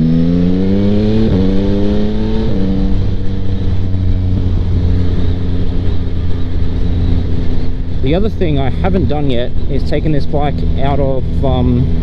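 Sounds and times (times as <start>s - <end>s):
loud motorcycle engine revving: 0.0s - 12.0s.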